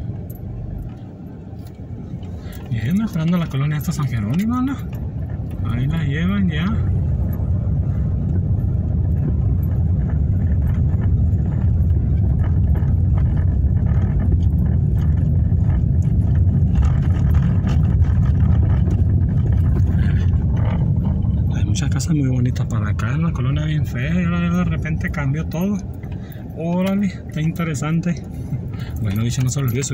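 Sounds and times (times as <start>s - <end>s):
car engine and tyre rumble: 0.0s - 29.9s
light clicks and rattles: 0.0s - 29.9s.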